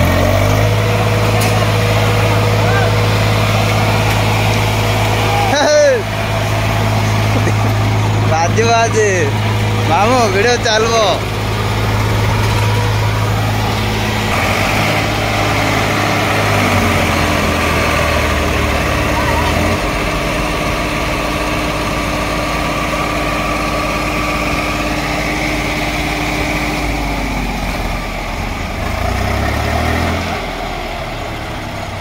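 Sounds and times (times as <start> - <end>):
tractor diesel engines under load: 0.0 - 32.0.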